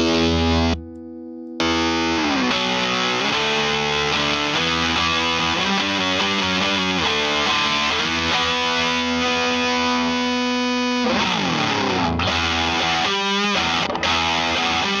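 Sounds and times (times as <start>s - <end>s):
fuzz electric guitar riffs: 0.0s - 1.0s, 1.6s - 15.0s.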